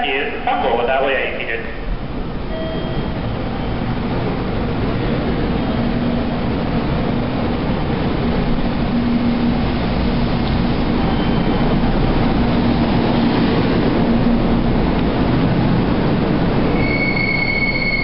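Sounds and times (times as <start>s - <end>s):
train rumble and hum: 0.0s - 18.0s.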